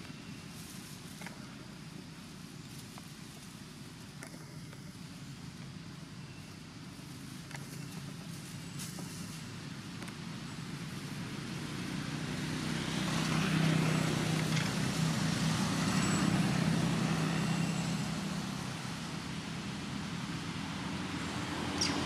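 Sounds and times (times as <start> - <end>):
passing motor vehicle engine hum: 0.0 - 22.0.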